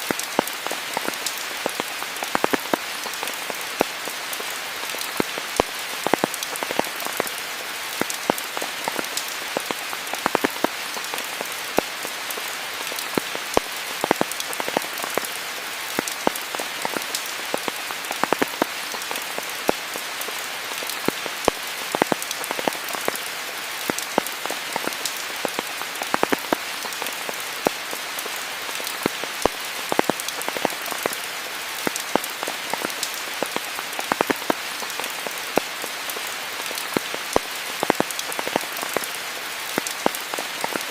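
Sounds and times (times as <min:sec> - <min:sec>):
sharp raindrop taps: 0:00.0 - 0:07.4, 0:08.0 - 0:15.3, 0:15.9 - 0:31.2, 0:31.8 - 0:40.9
steady rain hiss: 0:00.0 - 0:40.9.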